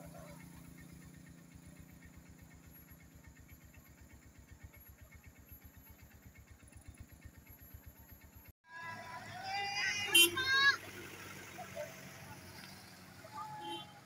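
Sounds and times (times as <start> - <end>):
faint engine idling: 0.0 - 14.0.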